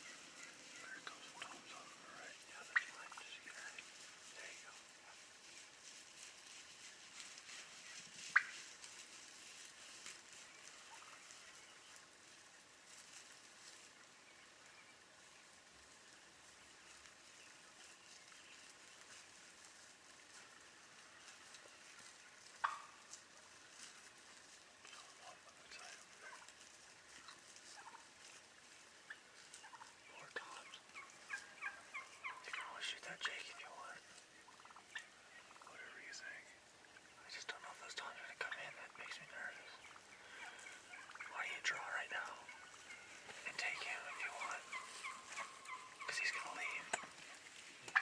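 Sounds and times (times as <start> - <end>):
soft steady hiss: 0.0 - 48.0
wild turkeys calling: 0.0 - 48.0.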